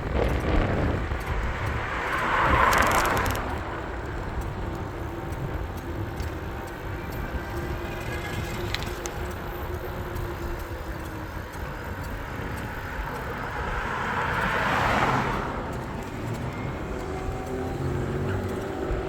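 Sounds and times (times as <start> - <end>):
car passing by: 0.0 - 19.0.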